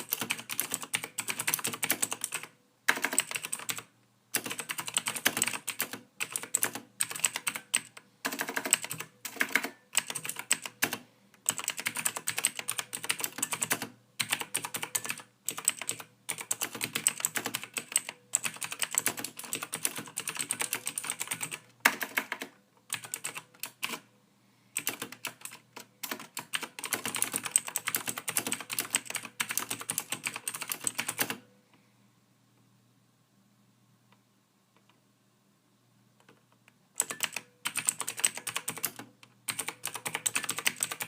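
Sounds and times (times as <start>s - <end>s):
typing on computer keyboard: 0.0s - 24.0s, 24.8s - 31.4s, 37.0s - 41.0s.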